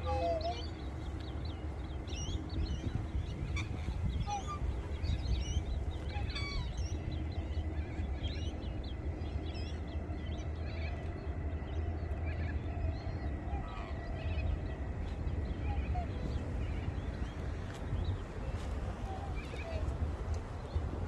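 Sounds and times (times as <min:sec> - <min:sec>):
birds chirping: 0:00.0 - 0:21.0
low steady rumble: 0:00.0 - 0:21.0.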